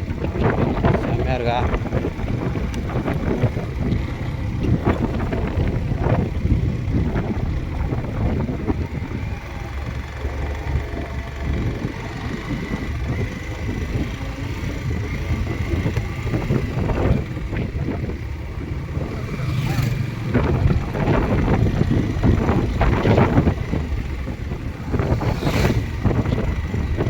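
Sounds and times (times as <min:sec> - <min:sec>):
motorcycle running with road noise: 0:00.0 - 0:27.0
wind buffeting microphone: 0:00.0 - 0:27.0.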